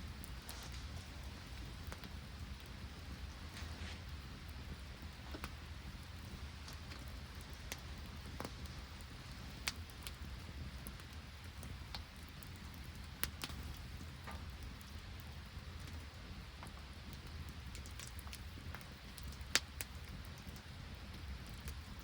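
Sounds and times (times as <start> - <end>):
campfire crackling and popping: 0.0 - 22.0
hiss of rain and sleet: 0.0 - 22.0.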